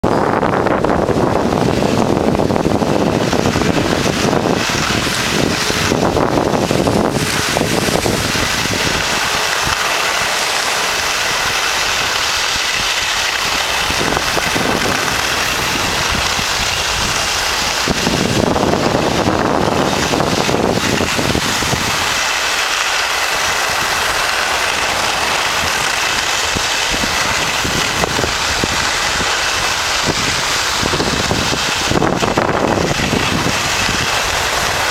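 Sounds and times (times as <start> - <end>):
wind rushing over microphone: 0.0 - 34.9
skis sliding on snow: 1.0 - 34.9.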